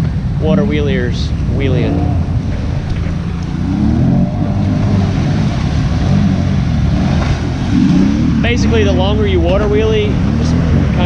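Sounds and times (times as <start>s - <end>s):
truck engines revving: 0.0s - 11.0s.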